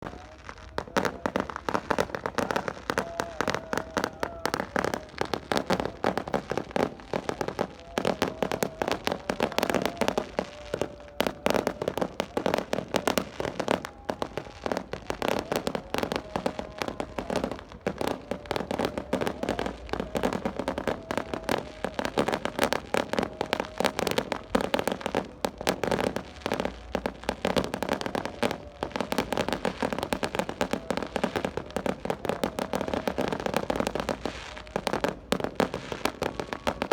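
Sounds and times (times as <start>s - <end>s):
firecrackers crackling: 0.0s - 36.9s.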